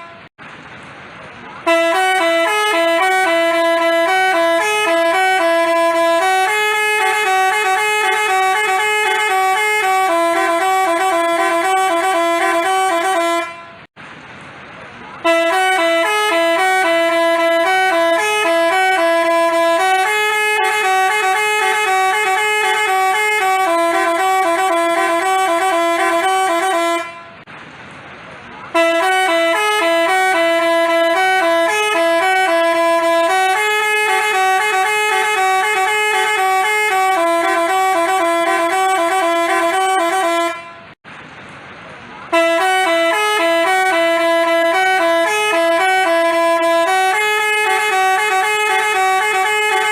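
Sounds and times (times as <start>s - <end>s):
musical bus horn playing a tune: 0.0s - 0.3s, 1.6s - 14.0s, 15.2s - 27.5s, 28.7s - 41.0s, 42.3s - 49.9s.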